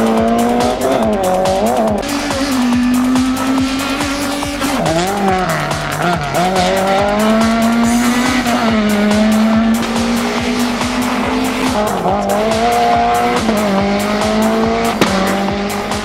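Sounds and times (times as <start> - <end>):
music with steady beat: 0.0 - 16.0
race car engine revving: 0.0 - 16.0.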